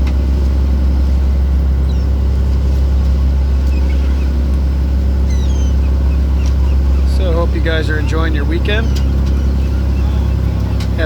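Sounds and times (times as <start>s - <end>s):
loud low boat engine drone: 0.0s - 11.0s.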